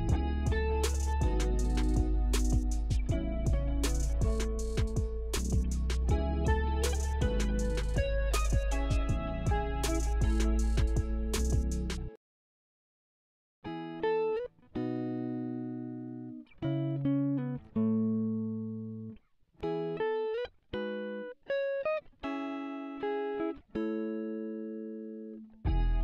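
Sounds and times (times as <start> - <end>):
solo guitar playing: 0.0 - 12.1, 13.7 - 26.0.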